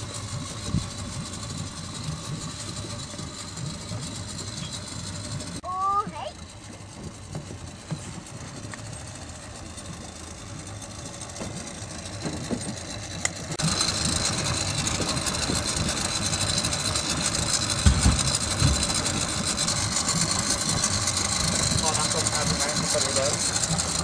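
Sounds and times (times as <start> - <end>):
high motor whine: 0.0 - 24.0
outboard motor idling: 0.0 - 24.0.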